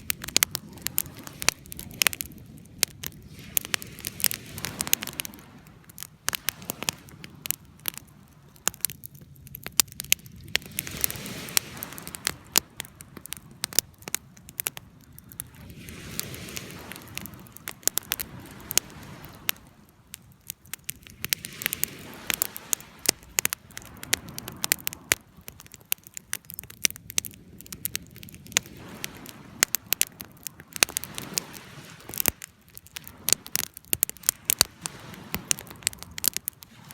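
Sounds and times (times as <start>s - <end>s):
bonfire crackling and popping: 0.0s - 36.9s
low rush of flame: 0.0s - 36.9s.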